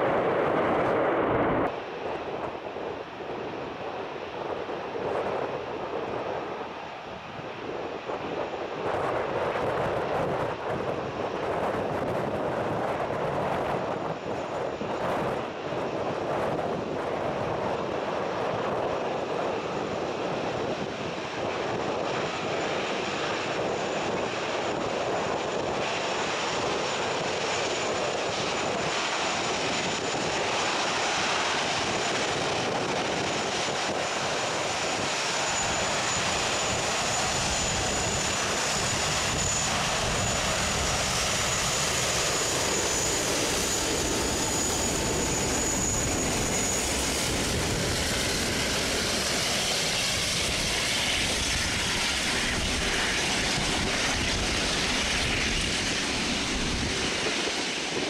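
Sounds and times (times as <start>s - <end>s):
jet engines rumbling with whine: 0.0s - 58.0s.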